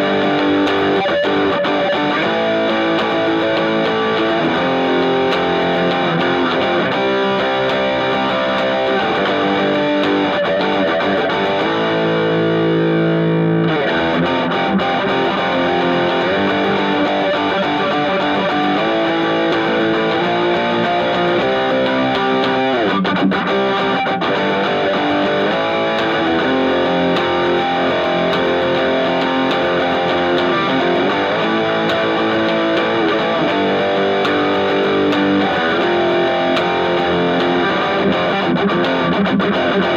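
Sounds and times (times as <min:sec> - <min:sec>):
electric guitar through amplifier: 0:00.0 - 0:39.9.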